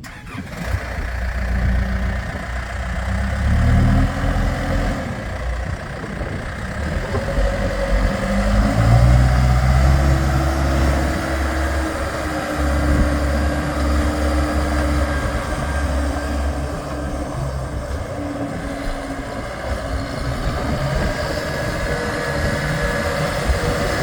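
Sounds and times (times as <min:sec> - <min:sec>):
diesel engine revving: 0:00.0 - 0:24.0.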